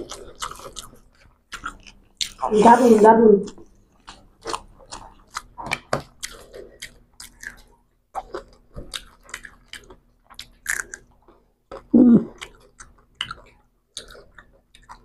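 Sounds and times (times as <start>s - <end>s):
wet chewing: 0.0s - 2.4s, 3.4s - 15.0s.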